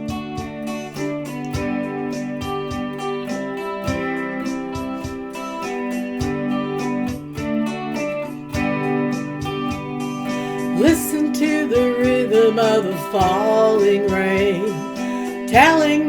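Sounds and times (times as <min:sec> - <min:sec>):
guitar strummed and plucked: 0:00.0 - 0:16.0.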